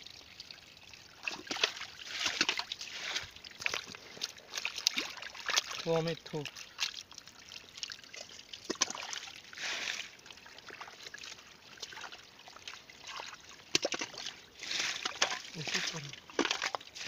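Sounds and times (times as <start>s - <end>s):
muddy water trickling and lapping: 0.0s - 17.0s
sharp water splashes: 1.2s - 17.0s.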